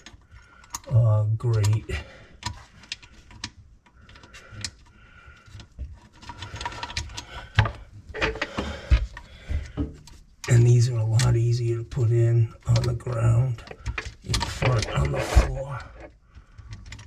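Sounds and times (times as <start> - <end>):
metal and plastic parts clicking: 0.0 - 0.9, 1.5 - 10.6, 12.6 - 17.0.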